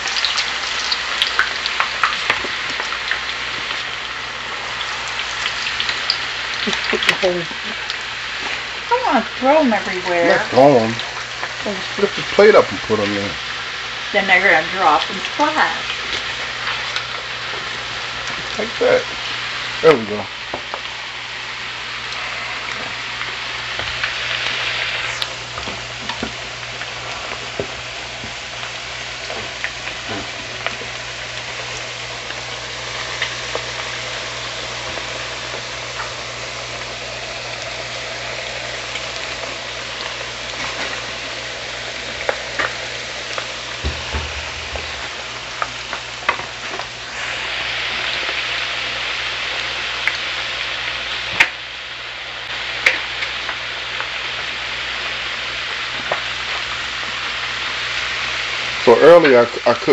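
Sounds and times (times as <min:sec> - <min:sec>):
fries sizzling in hot oil: 0:00.0 - 0:59.9.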